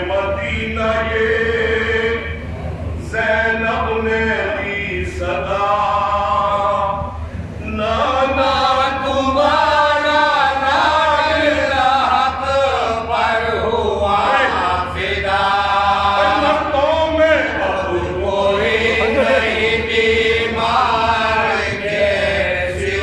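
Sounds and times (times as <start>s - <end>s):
men chanting in unison: 0.0s - 2.4s, 3.0s - 23.0s.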